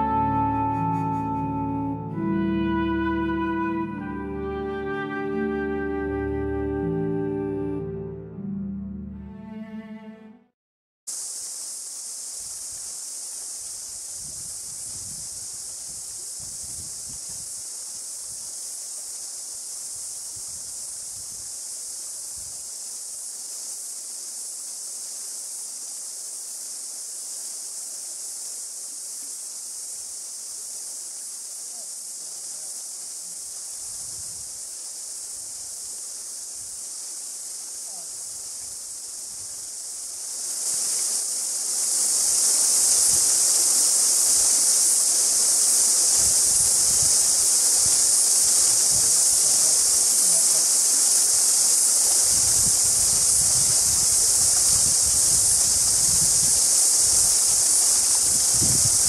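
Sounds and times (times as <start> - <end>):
cicadas chorus: 0.0 - 7.5, 11.1 - 59.0.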